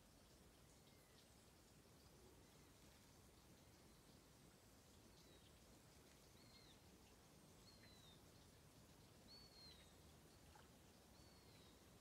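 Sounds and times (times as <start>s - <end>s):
quiet low hiss: 0.0s - 12.0s.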